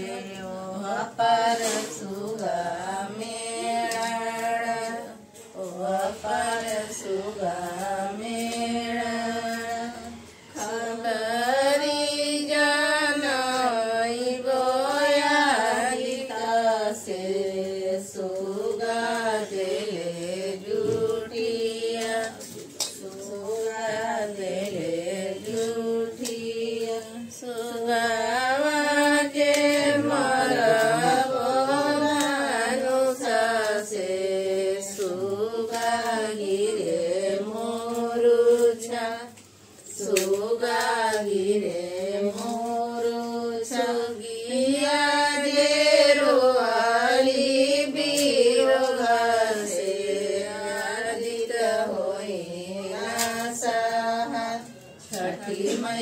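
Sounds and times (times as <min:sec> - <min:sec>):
person singing slow melody: 0:00.0 - 0:56.0.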